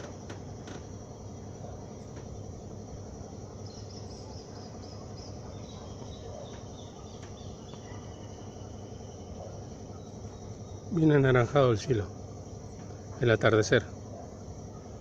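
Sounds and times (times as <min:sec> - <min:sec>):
crickets trilling: 0:00.0 - 0:15.0
short insect chirps: 0:00.0 - 0:15.0.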